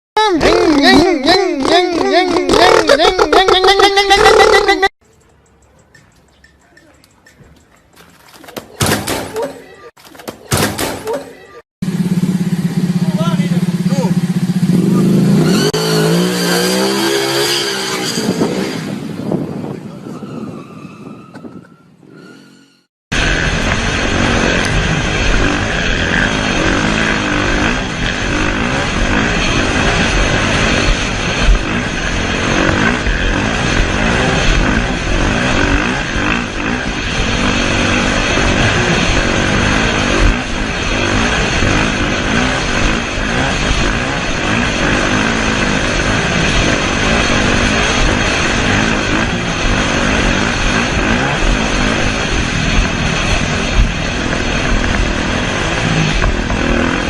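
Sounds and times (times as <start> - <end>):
dirt bike engines revving: 0.2 - 22.3, 23.2 - 57.0.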